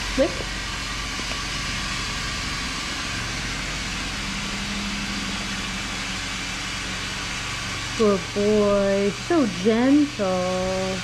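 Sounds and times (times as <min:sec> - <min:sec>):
rushing noise: 0:00.0 - 0:10.8
low hum: 0:00.0 - 0:11.0
steady low drone: 0:00.0 - 0:11.0.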